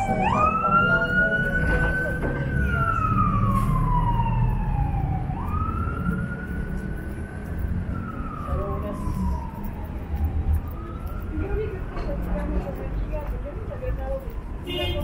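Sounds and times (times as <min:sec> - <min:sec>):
wailing siren: 0:00.0 - 0:13.1
street traffic rumble: 0:00.0 - 0:15.0.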